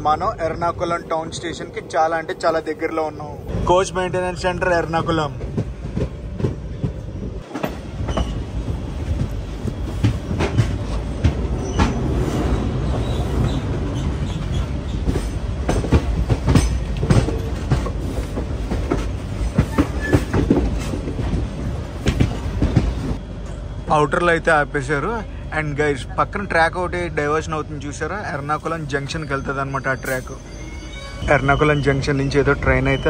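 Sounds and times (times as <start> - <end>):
train wheels rumbling: 0.0 - 33.0.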